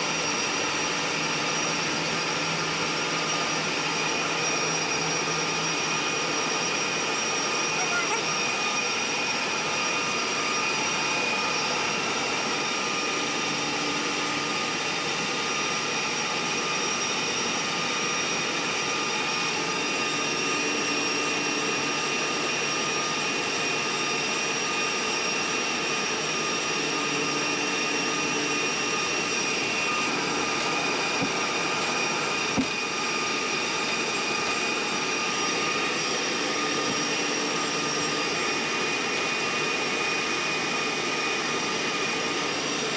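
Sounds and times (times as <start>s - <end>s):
constant whining tones: 0.0s - 42.9s.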